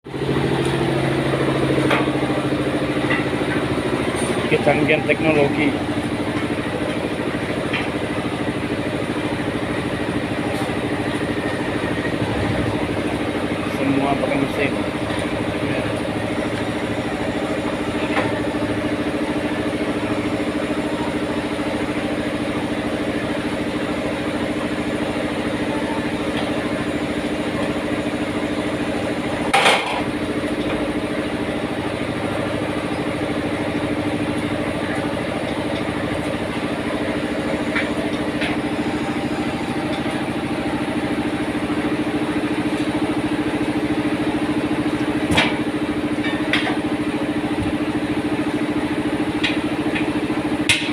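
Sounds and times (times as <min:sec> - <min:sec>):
tyre-changing machine humming: 0:00.1 - 0:50.9.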